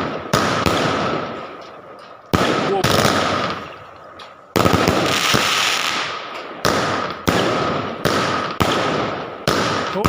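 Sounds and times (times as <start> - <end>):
firework bangs: 0.0 - 10.0
firework crackling: 0.0 - 10.0.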